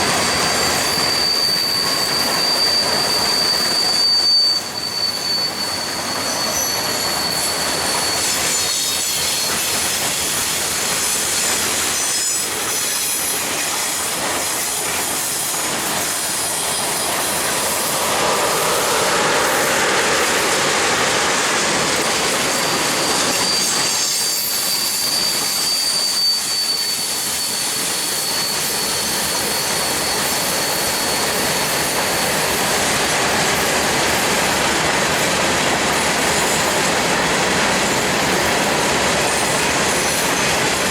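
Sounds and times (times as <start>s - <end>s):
high wheel squeal: 0.0s - 40.9s
train wheels rumbling and rattling: 0.0s - 40.9s.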